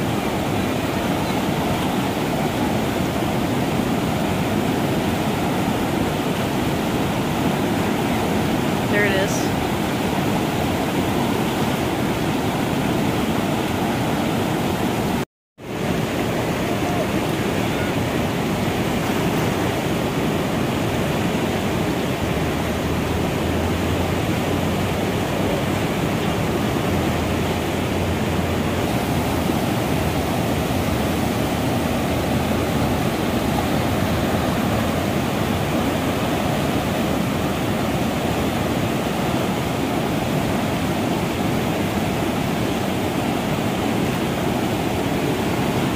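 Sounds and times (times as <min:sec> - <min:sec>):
whitewater rapids rushing: 0:00.0 - 0:45.9.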